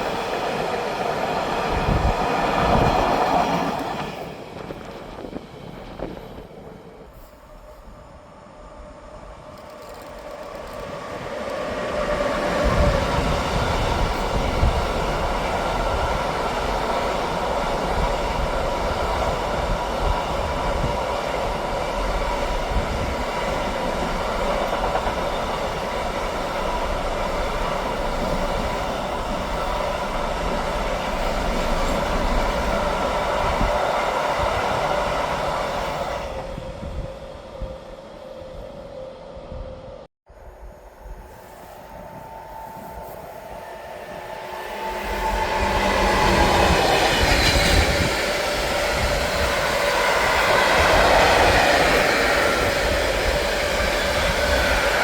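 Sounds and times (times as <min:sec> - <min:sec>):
rumble of train wheels: 0:00.0 - 0:55.0
train passing: 0:00.0 - 0:55.0
train whine: 0:00.0 - 0:55.0.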